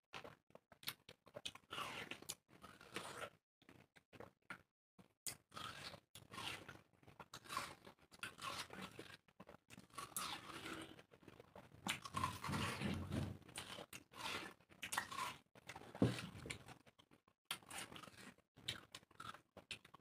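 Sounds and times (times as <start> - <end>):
people chewing watermelon: 0.1 - 20.0.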